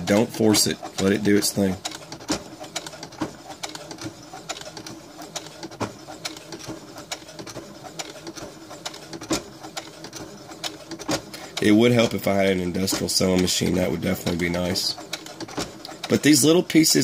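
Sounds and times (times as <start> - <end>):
sewing machine clicks: 0.0 - 17.0
sewing machine stitching: 0.0 - 17.0.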